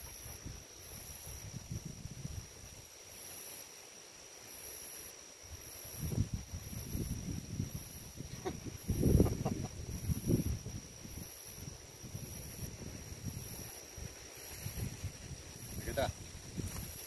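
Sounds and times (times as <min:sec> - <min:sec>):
insects chirping: 0:00.0 - 0:17.0
low rumbling buffets on microphone: 0:00.2 - 0:02.9, 0:05.4 - 0:17.0.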